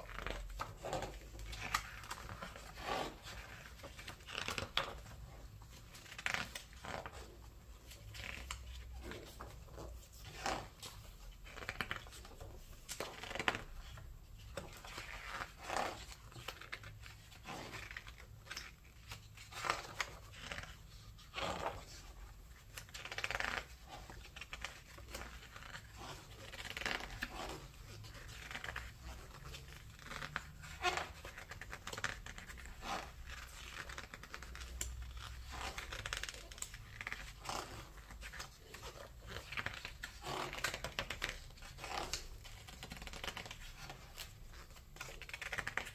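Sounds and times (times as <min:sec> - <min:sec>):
book pages turning: 0:00.0 - 0:45.9.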